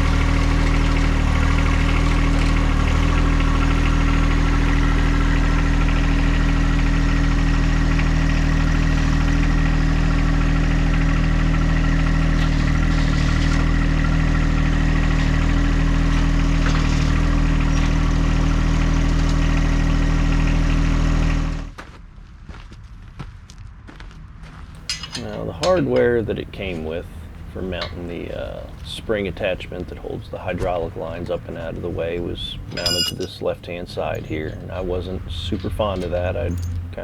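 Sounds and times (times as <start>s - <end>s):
tractor engine idling: 0.0s - 21.7s, 24.8s - 37.0s.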